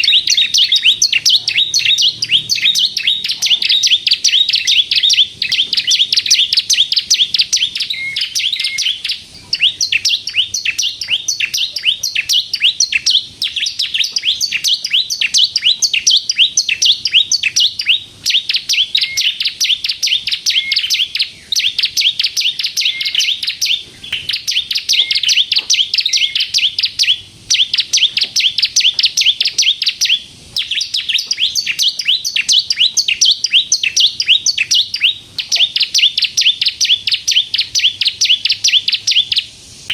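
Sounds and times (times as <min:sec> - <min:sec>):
bird singing chattering high notes: 0:00.0 - 0:39.5.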